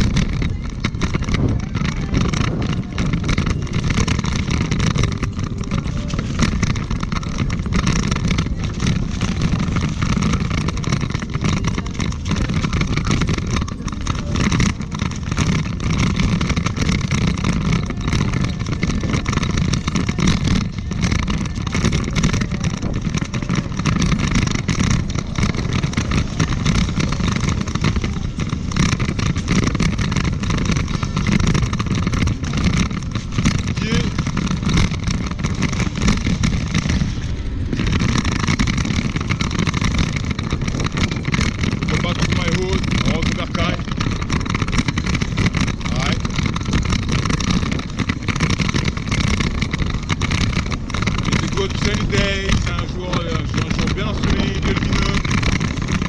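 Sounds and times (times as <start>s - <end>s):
knocks from bumps: 0.0s - 56.0s
vehicle ride rumble: 0.0s - 56.0s
wind noise: 0.0s - 56.0s.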